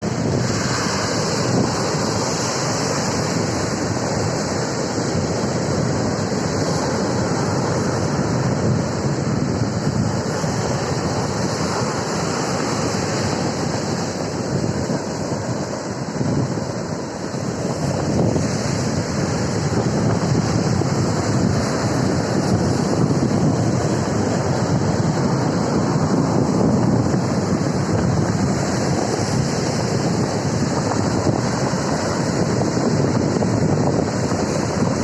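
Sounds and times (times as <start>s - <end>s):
surf breaking on shore: 0.0s - 35.0s
wind buffeting microphone: 0.0s - 35.0s.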